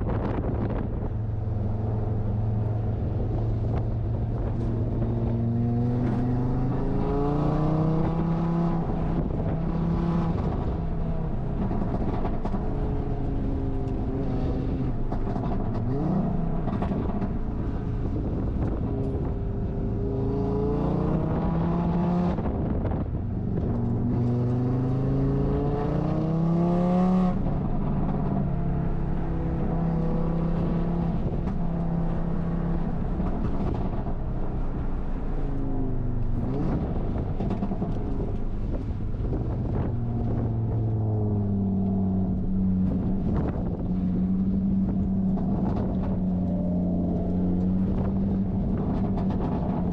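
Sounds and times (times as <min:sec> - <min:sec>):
road and wind noise: 0:00.0 - 0:49.9.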